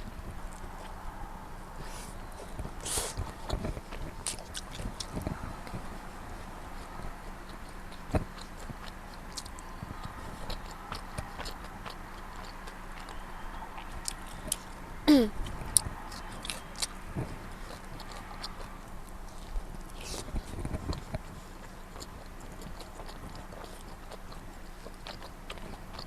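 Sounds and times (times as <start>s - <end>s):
chewing and biting food: 0.1s - 26.0s.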